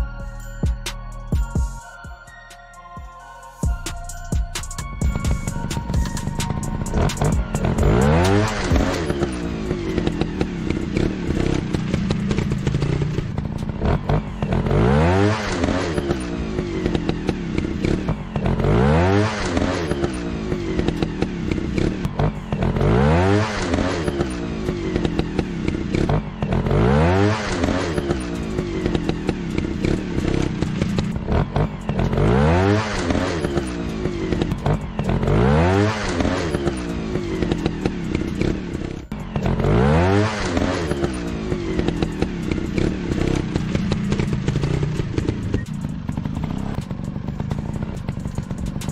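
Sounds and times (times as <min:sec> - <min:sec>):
motorcycle engine revving: 0:03.9 - 0:48.9.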